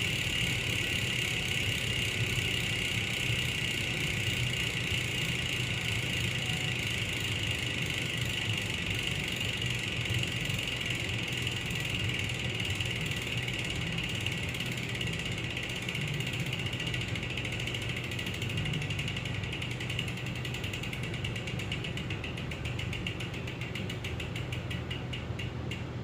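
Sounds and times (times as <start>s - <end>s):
bicycle freehub ticking: 0.0s - 26.0s.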